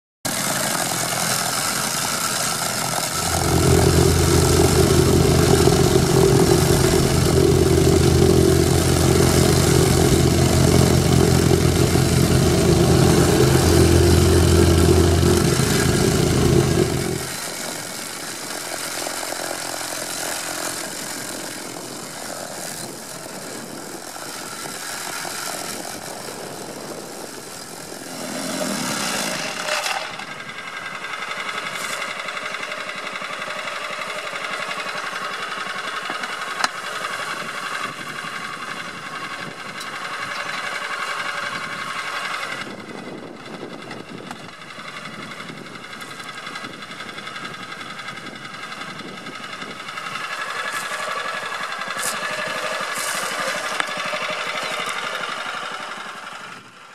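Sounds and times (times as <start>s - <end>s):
plate compactor engine drone: 0.3s - 56.9s.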